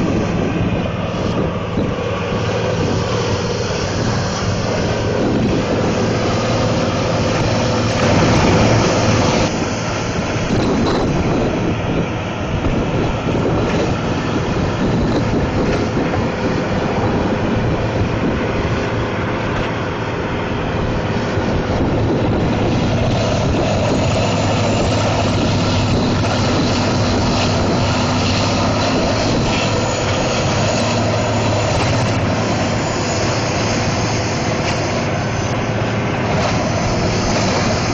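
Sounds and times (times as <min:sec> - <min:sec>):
machine grinding wood: 0:00.0 - 0:20.0, 0:21.0 - 0:37.9
diesel engine droning: 0:00.0 - 0:37.9.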